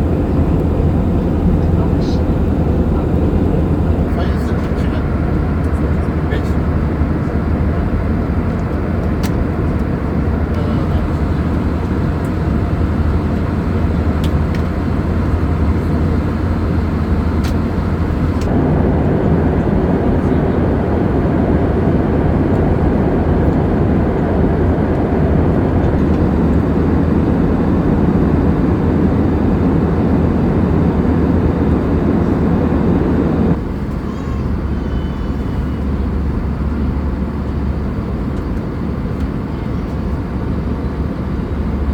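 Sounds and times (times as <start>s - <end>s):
aircraft cabin roar: 0.0s - 41.9s.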